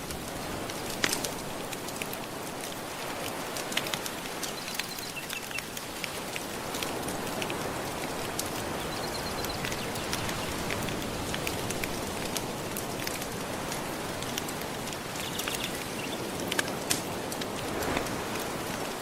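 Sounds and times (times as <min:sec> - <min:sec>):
gentle ocean waves: 0:00.0 - 0:19.0
wood fire crackling: 0:00.0 - 0:19.0.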